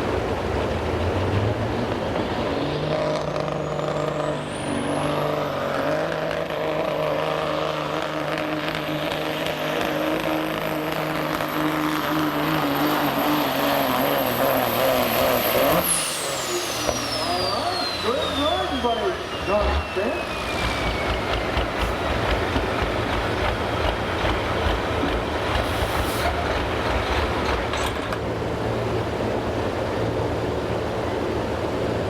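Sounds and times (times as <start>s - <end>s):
turbocharger whine: 0.0s - 29.3s
diesel truck engine at full throttle: 0.0s - 32.0s.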